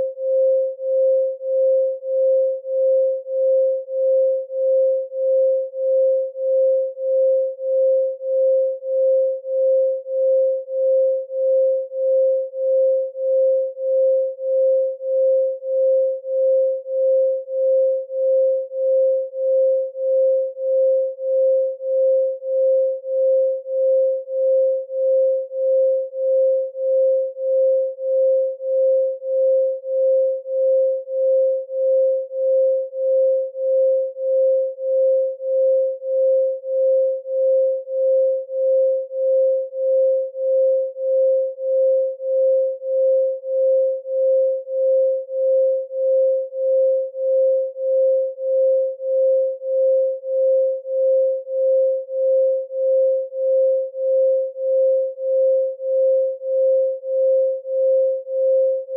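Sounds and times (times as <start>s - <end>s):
pulsing electronic sine tone: 0.0s - 58.9s.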